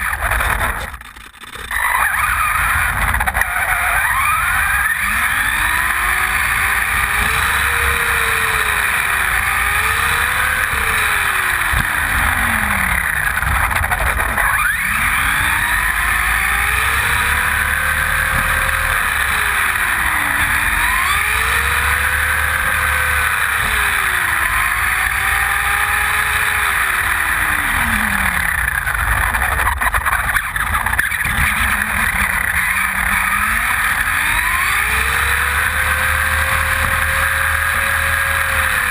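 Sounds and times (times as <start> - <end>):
electric motor and gears whining: 0.0 - 38.9
road noise rushing: 1.6 - 38.9.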